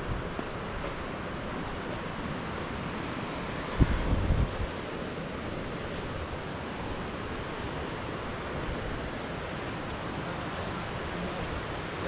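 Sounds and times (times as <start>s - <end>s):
water flowing: 0.0s - 12.0s.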